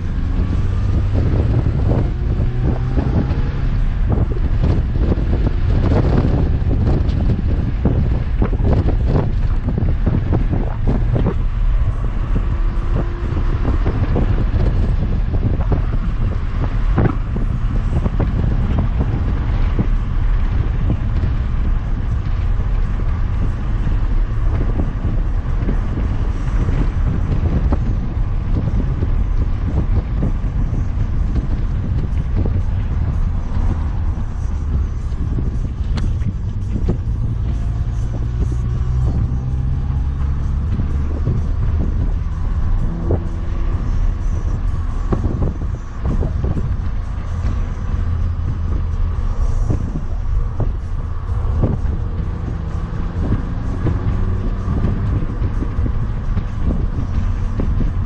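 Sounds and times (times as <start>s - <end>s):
car engine rumbling: 0.0s - 58.0s
tyre noise: 0.0s - 58.0s
wind noise: 0.0s - 58.0s.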